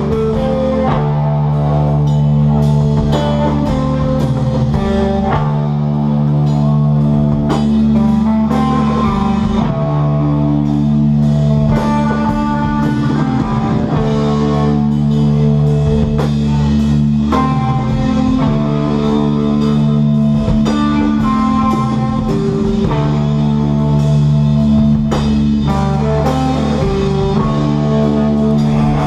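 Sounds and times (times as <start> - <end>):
bass guitar: 0.0 - 29.0
drum kit: 0.0 - 29.0
electric guitar: 0.0 - 29.0.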